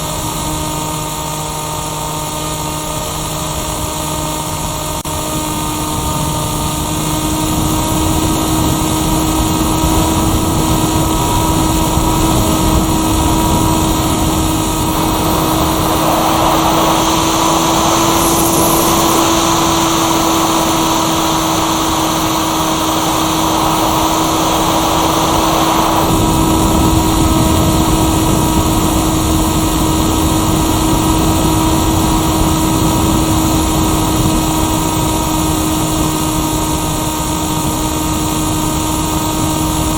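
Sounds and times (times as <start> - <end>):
model plane motor hum: 0.0 - 39.9
rush of air: 0.0 - 39.9.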